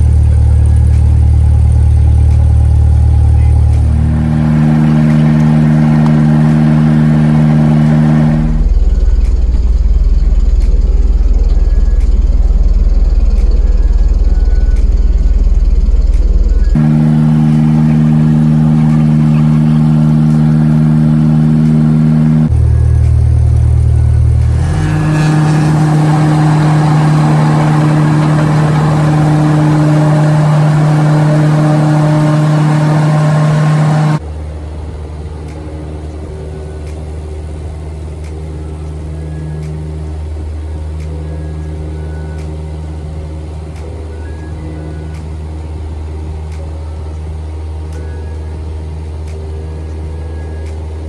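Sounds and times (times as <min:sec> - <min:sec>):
light aircraft engine droning: 0:00.0 - 0:51.0.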